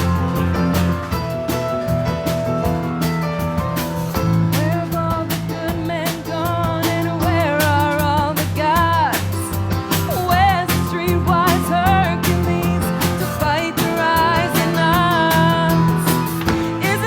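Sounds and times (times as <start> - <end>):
music with guitar and drums: 0.0 - 17.0.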